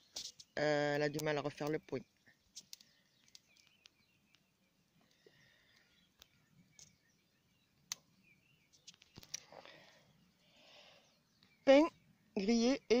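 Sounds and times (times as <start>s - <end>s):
faint distant birdsong: 0.0s - 13.0s.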